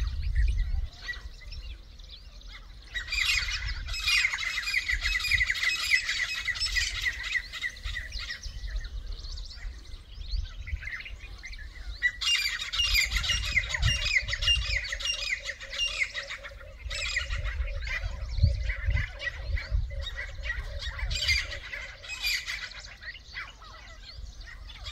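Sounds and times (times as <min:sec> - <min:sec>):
francolins squawking calls: 0:00.0 - 0:24.9
low pulsing bird call: 0:00.0 - 0:24.9.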